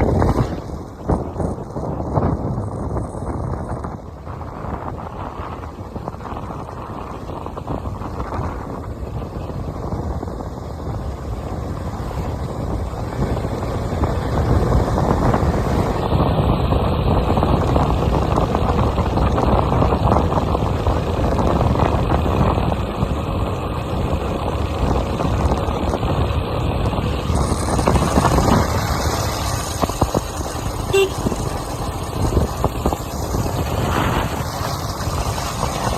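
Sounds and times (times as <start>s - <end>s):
road vehicle engine and road noise: 0.0s - 35.9s.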